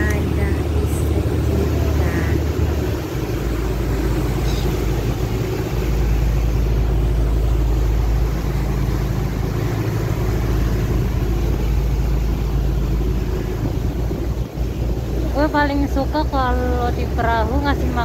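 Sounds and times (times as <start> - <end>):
ferry engine rumble: 0.0 - 18.0.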